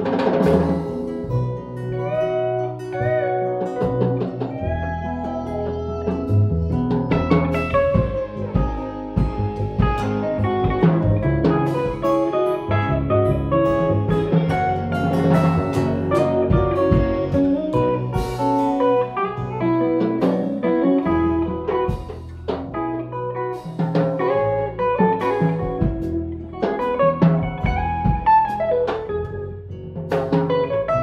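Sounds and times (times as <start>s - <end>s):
acoustic guitar chords: 0.0s - 31.0s
plucked guitar notes: 0.0s - 31.0s
upright bass line: 0.0s - 31.0s.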